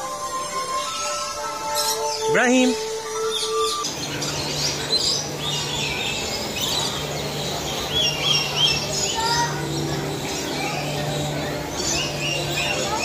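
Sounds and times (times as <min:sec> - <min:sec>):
parrots chirping and twittering: 0:00.3 - 0:13.0.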